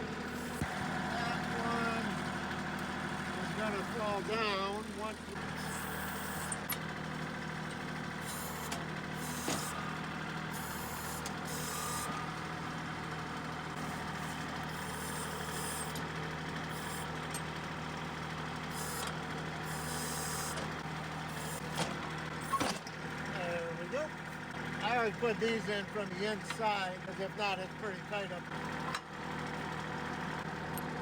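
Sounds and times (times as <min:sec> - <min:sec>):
tractor diesel engine idling: 0:00.0 - 0:31.0.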